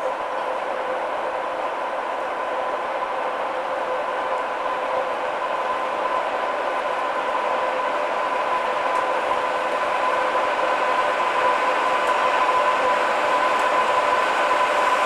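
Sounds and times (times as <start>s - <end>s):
electric locomotive whine and rumble: 0.0s - 15.0s.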